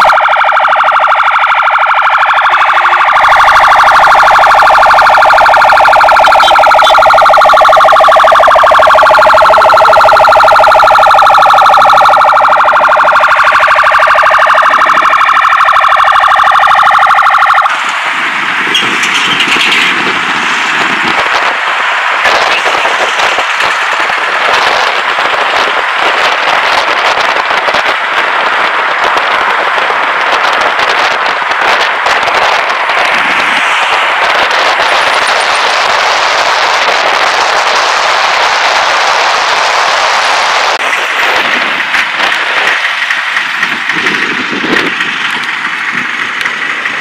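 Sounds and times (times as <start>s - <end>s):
police sirens: 0.0s - 47.0s
steady rushing noise: 0.0s - 47.0s.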